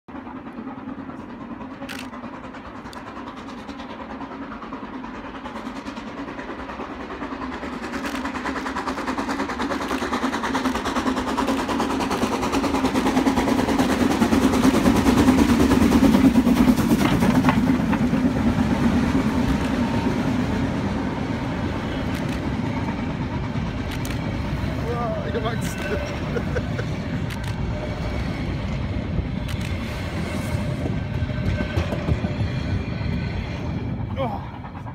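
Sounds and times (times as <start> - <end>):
carriages rattling on rails: 0.1 - 34.9
steam train passing: 0.1 - 34.9.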